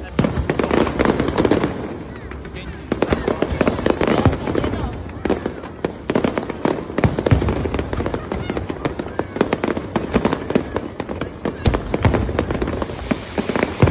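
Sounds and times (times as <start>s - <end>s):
fireworks bangs and crackling: 0.0s - 13.9s
heavy fireworks booms: 0.0s - 13.9s.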